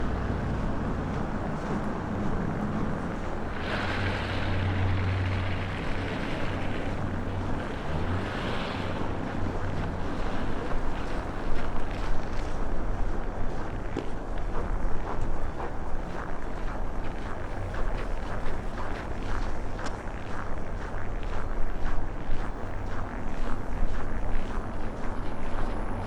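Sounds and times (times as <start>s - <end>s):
low steady hum: 0.0s - 26.0s
wind buffeting microphone: 0.0s - 26.0s.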